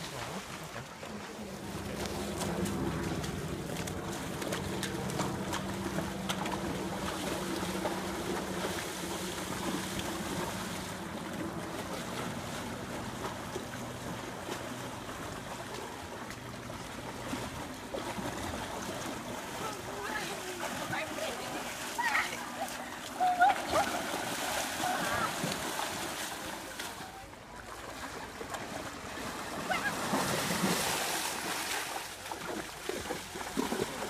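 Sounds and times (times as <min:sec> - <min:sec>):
rushing water: 0:00.0 - 0:34.0
water splashing around horses: 0:00.0 - 0:34.0.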